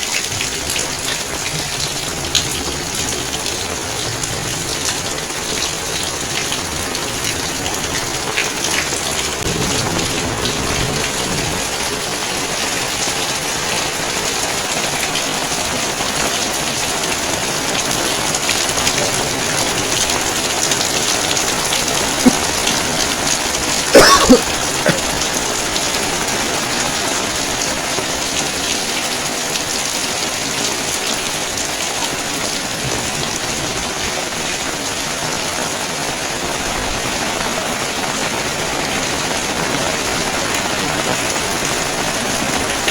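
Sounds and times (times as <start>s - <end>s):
rain pattering on surfaces: 0.0s - 42.9s.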